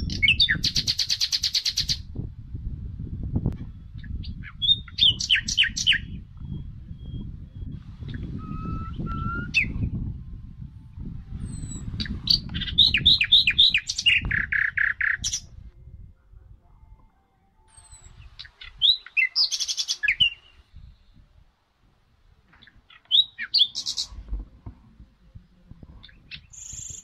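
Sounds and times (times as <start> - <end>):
songbird singing: 0.0 - 2.3, 3.0 - 21.5, 22.4 - 27.0.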